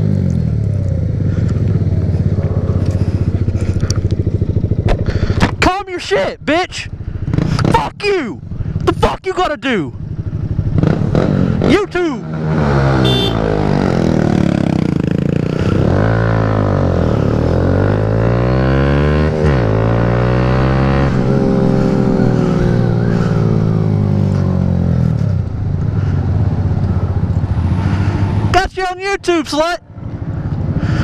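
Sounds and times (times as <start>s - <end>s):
motorcycle engine accelerating: 0.0s - 5.6s, 6.4s - 8.9s, 9.9s - 28.6s, 29.8s - 31.0s.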